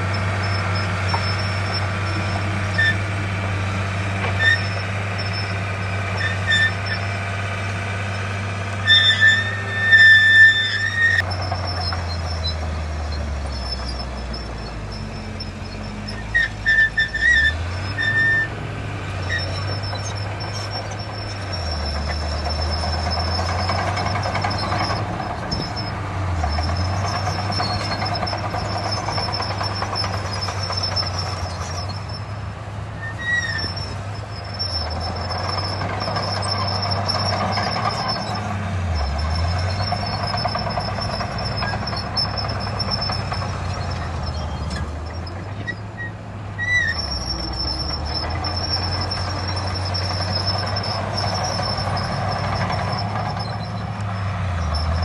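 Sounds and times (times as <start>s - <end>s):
short squeaks: 0.0s - 32.4s, 33.0s - 55.0s
diesel earthmoving machinery running: 0.0s - 55.0s.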